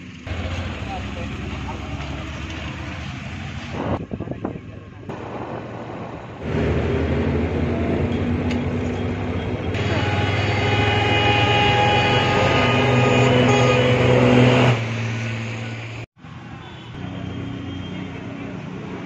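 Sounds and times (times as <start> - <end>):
heavy vehicle engines running: 0.0 - 19.0
traffic noise: 0.0 - 19.0.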